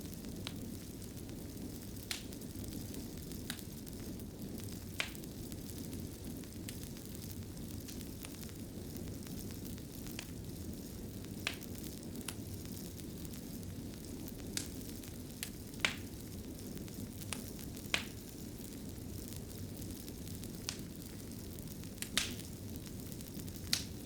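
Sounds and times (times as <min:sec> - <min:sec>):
fire crackling and popping: 0:00.0 - 0:24.0
fire flames rushing: 0:00.0 - 0:24.0.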